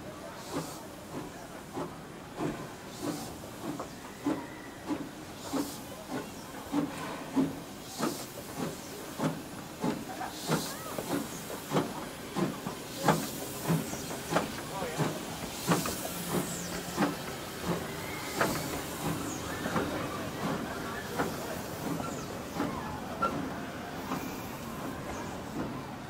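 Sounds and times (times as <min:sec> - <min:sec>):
steady hiss of steam: 0:00.0 - 0:26.0.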